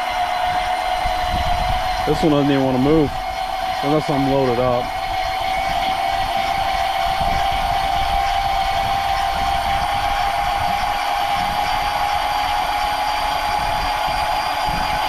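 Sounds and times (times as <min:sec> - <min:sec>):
electric fishing reel whining: 0:00.0 - 0:15.0.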